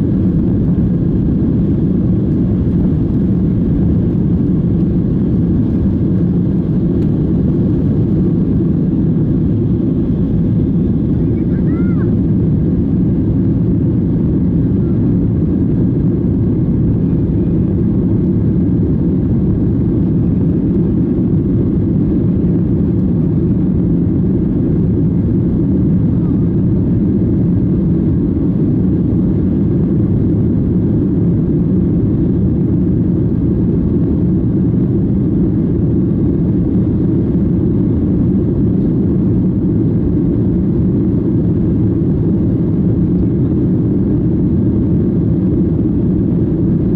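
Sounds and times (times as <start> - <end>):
airplane cabin engine roar: 0.0 - 46.9.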